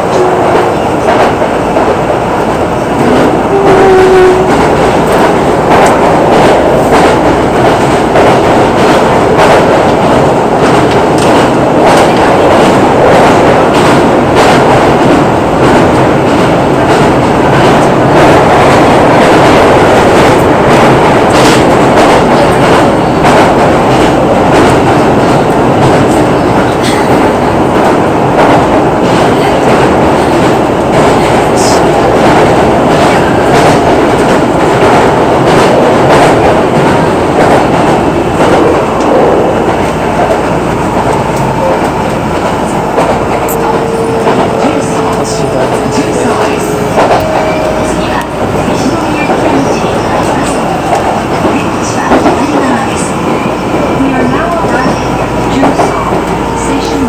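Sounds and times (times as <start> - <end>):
rail joint clicks and clacks: 0.0 - 57.0
train wheels rumbling on rail: 0.0 - 57.0.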